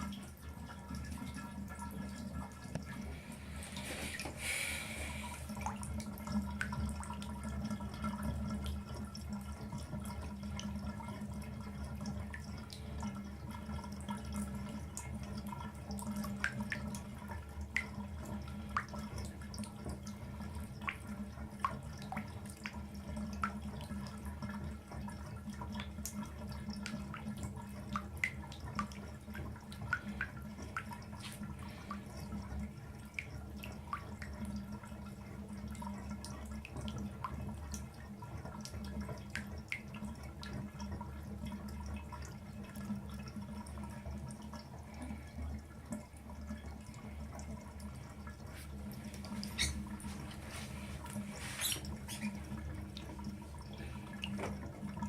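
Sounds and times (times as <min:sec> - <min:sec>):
water dripping: 0:00.0 - 0:55.0.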